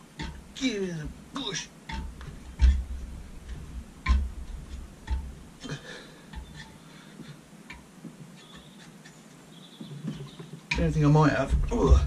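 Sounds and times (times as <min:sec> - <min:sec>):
low thumps: 0:00.0 - 0:08.4, 0:09.8 - 0:12.0.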